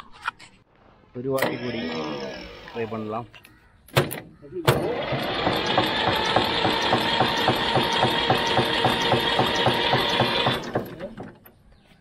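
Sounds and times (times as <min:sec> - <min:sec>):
diesel engine cranking: 0:01.4 - 0:03.2, 0:03.9 - 0:11.7.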